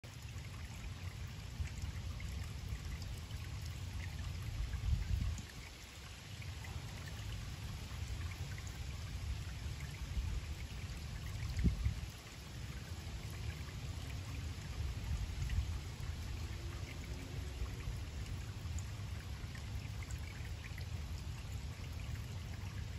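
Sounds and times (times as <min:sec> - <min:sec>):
waterfall splashing into pond: 0:00.0 - 0:22.9
water drips: 0:00.1 - 0:22.9.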